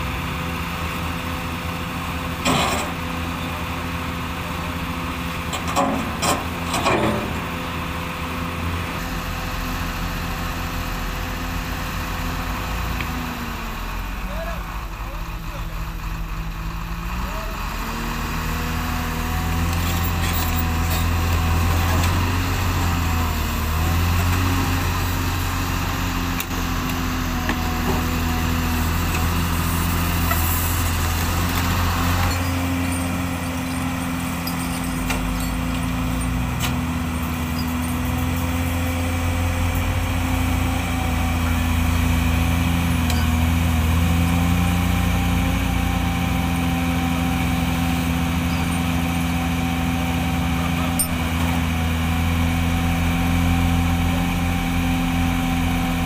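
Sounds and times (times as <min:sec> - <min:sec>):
heavy diesel engines droning: 0:00.0 - 0:56.0.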